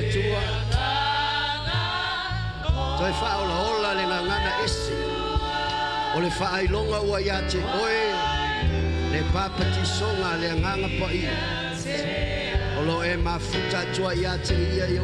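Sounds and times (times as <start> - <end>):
gospel singers with band: 0.0 - 15.0.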